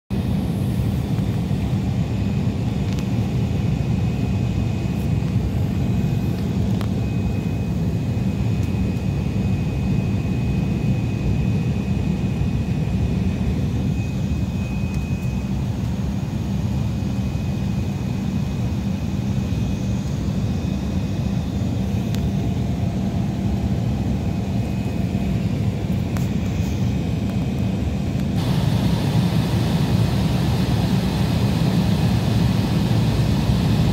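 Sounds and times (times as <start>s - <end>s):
jet aircraft rumble: 0.1s - 33.9s
faint high whine: 0.2s - 33.9s.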